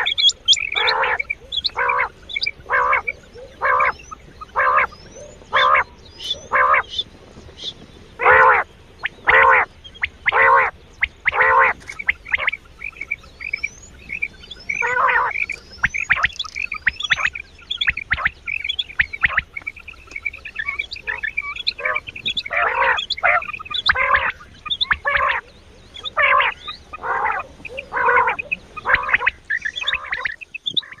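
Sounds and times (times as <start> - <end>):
quail calls: 0.0 - 31.0.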